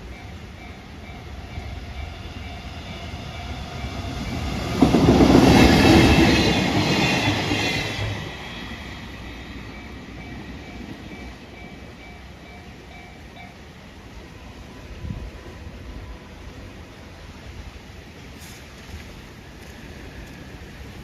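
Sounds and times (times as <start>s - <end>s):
crossing warning bell: 0.0s - 17.7s
train rumbling past: 0.0s - 21.0s.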